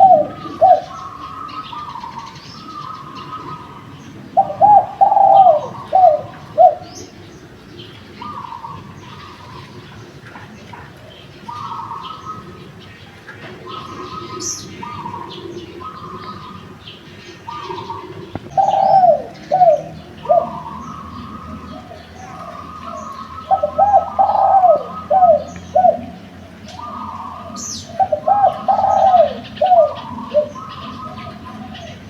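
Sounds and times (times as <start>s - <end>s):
birds chirping: 0.0s - 32.0s
dove cooing: 0.0s - 32.0s.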